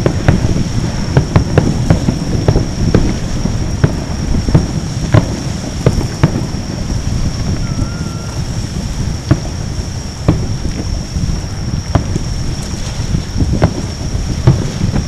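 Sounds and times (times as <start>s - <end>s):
fireworks booming: 0.0s - 15.0s
steady low rumble: 0.0s - 15.0s.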